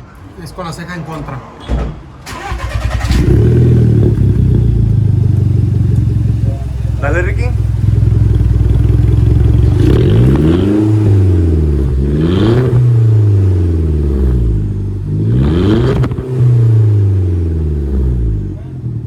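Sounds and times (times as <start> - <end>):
car engine revving: 2.3 - 19.0.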